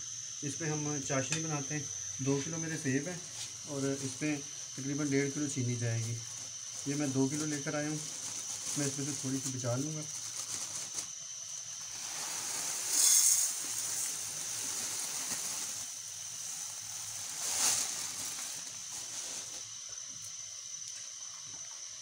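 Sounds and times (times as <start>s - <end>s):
sugar pouring into metal pan: 1.1s - 19.8s.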